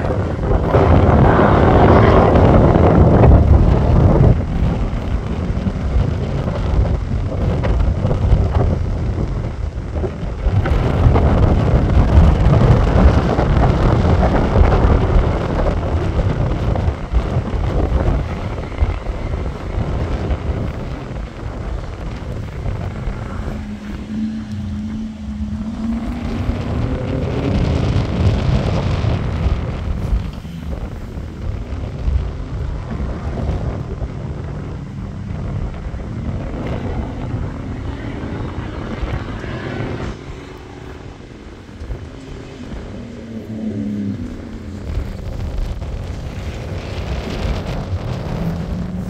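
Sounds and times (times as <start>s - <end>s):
car engine driven hard: 0.0s - 49.0s
wind buffeting microphone: 0.0s - 49.0s.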